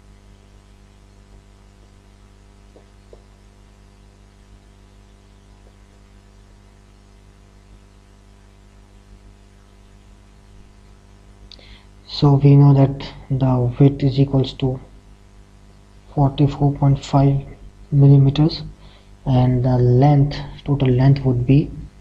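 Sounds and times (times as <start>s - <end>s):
background hiss: 0.0s - 22.0s
electrical mains hum: 0.0s - 22.0s.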